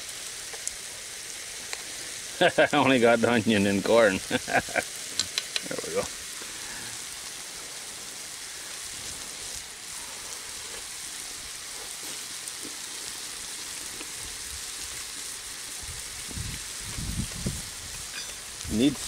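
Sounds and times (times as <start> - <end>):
meat sizzling in frying pan: 0.0 - 19.0.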